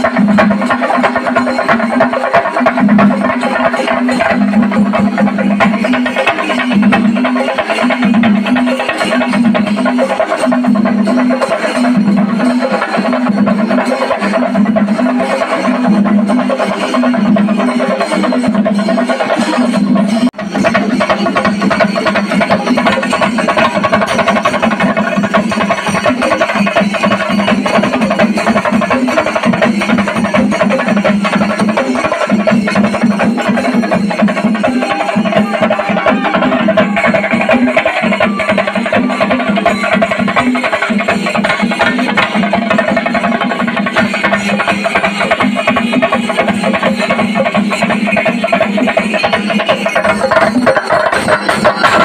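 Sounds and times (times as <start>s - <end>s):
cymbals clashing: 0.0s - 52.0s
drums beaten with sticks: 0.0s - 52.0s.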